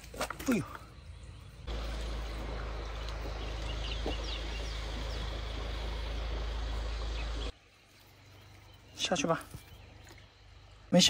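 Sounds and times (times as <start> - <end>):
high falling bird chirps: 0.4 - 11.0.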